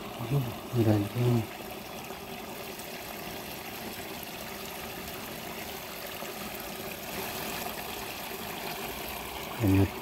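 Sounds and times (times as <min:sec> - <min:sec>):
water trickling in ditch: 0:00.0 - 0:10.0.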